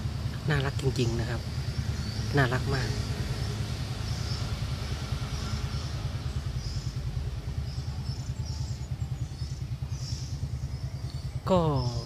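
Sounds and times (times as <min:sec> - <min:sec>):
engine running: 0:00.0 - 0:12.0
faint high chirps: 0:01.2 - 0:12.0.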